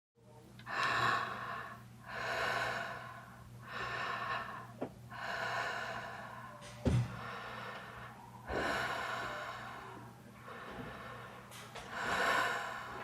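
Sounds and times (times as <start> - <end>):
woman breathing heavily: 0.7 - 13.0.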